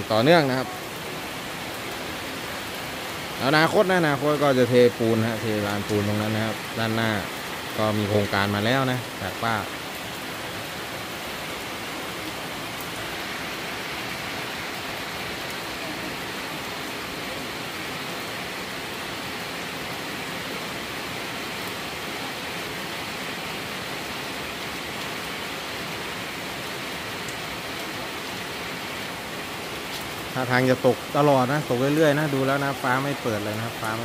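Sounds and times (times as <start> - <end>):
heavy rain on pavement: 0.0 - 34.0.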